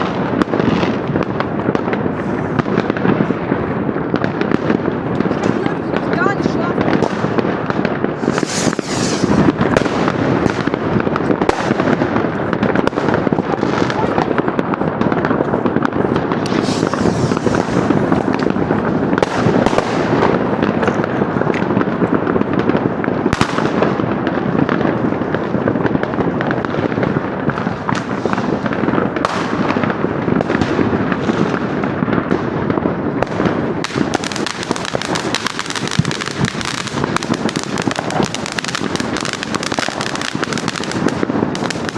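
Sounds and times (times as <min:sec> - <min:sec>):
fireworks and firecrackers banging: 0:00.0 - 0:41.9
sharp firecracker cracks: 0:06.8 - 0:25.0, 0:25.9 - 0:41.9.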